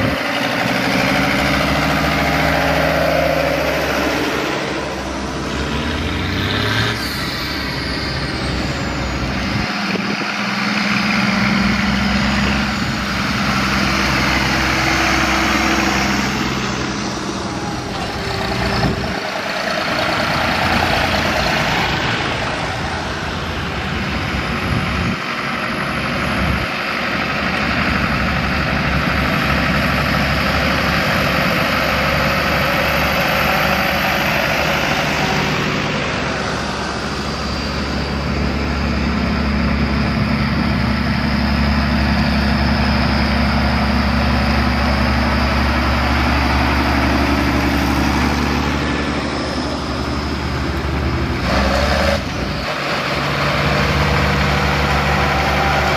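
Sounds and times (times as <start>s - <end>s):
tractor diesel engines: 0.0s - 55.9s.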